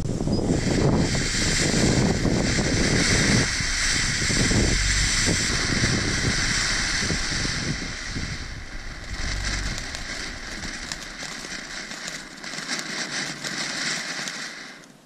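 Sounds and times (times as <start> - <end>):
firework hissing and crackling: 0.0 - 15.0.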